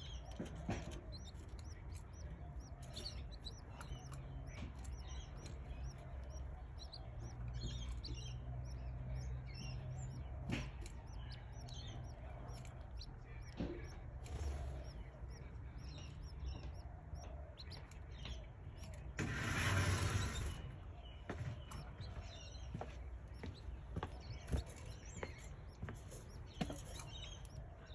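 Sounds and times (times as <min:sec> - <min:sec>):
canary chicks cheeping: 0:00.0 - 0:27.9.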